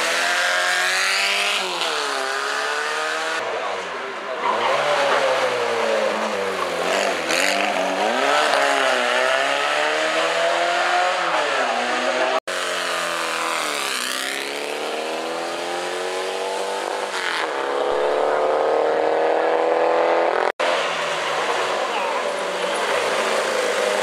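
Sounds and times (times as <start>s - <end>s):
racing car engines accelerating: 0.0s - 24.0s.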